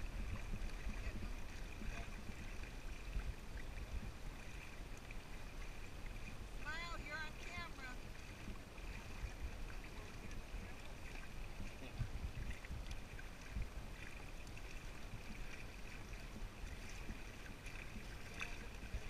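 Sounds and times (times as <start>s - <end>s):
water splashing along hull: 0.0s - 19.0s
wind rumble on microphone: 0.0s - 19.0s.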